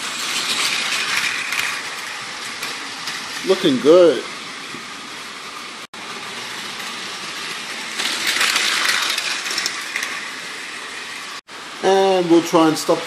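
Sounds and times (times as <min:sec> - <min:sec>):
toy train motor whirring: 0:00.0 - 0:11.4.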